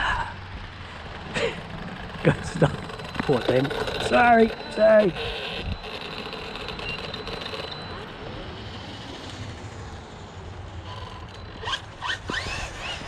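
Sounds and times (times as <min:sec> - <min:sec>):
outdoor background noise: 0:00.0 - 0:13.0
electric motor whining: 0:01.4 - 0:13.0.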